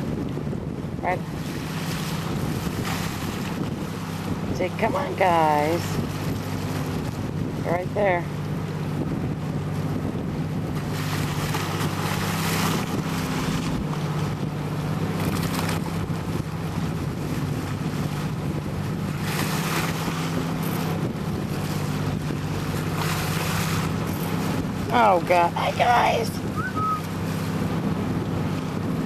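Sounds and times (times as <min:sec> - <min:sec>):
boat motor running: 0:00.0 - 0:29.0
water rushing along hull: 0:00.0 - 0:29.0
wind on microphone: 0:00.0 - 0:29.0.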